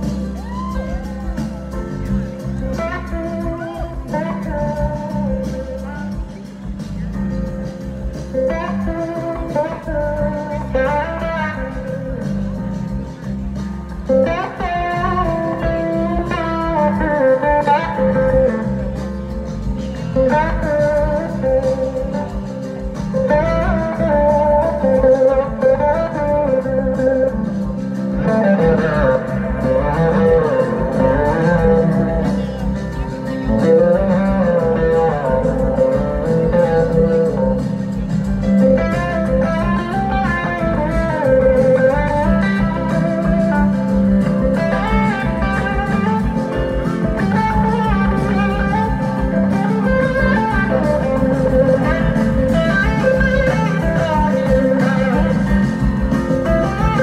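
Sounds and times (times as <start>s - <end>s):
blues-rock band playing: 0.0s - 57.0s
electric guitar lead: 0.0s - 57.0s.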